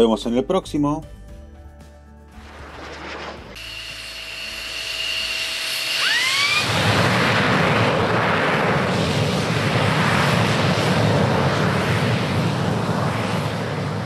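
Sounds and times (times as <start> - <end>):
jet engine spooling up: 2.4 - 14.0.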